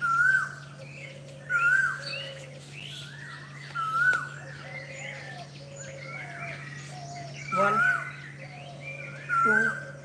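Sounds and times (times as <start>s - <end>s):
birds chirping and calling: 0.0s - 10.0s
steady low hum: 0.0s - 10.0s.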